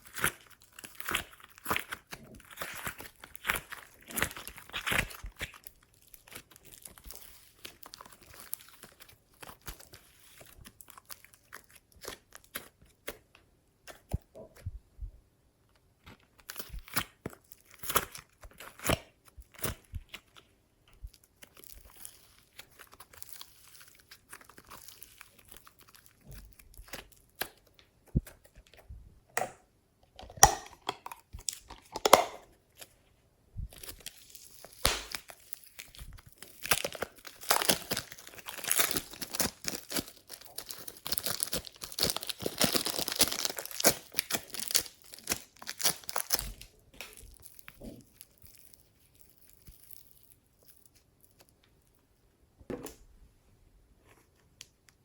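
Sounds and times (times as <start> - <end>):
slime squishing and popping: 0.0 - 14.7, 16.0 - 20.4, 21.0 - 32.9, 33.6 - 51.5.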